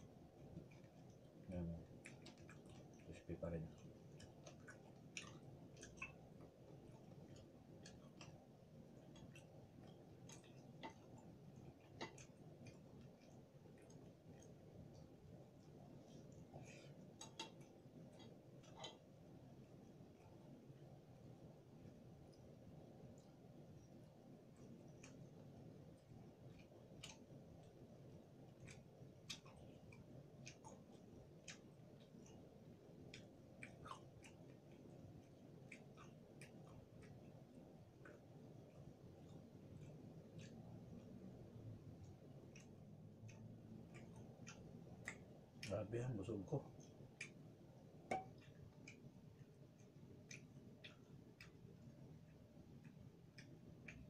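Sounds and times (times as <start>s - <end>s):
crunchy food being chewed: 0.4s - 46.1s.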